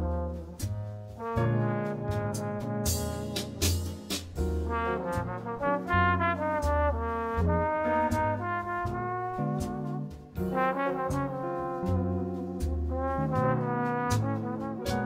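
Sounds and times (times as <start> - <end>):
jazz trombone melody: 0.0 - 15.0
low bass line: 0.0 - 15.0.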